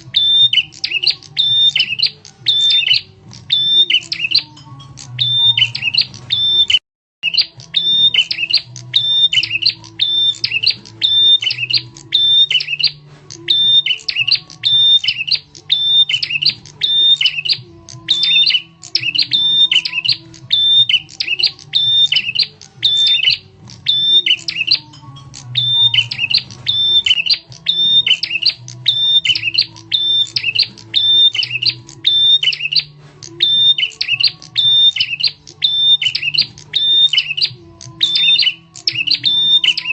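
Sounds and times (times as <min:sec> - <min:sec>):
bird sharp chirping phrases: 0:00.0 - 0:39.9.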